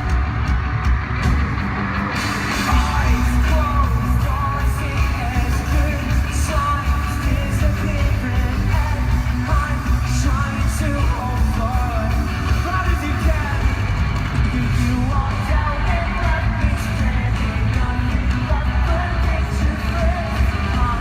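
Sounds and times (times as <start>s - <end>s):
bass guitar: 0.0s - 21.0s
drums: 0.0s - 21.0s
electric guitars: 0.0s - 21.0s
fans yelling: 0.0s - 21.0s
person singing: 2.4s - 21.0s.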